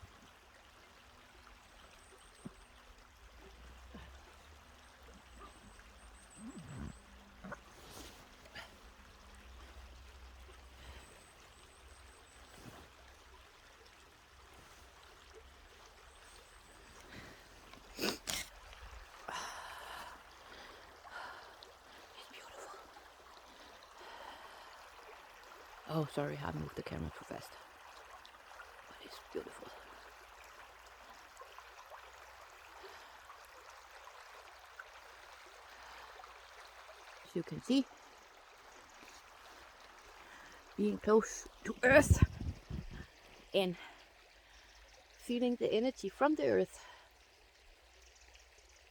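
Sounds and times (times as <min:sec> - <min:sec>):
stream water trickling: 0:00.0 - 0:48.9.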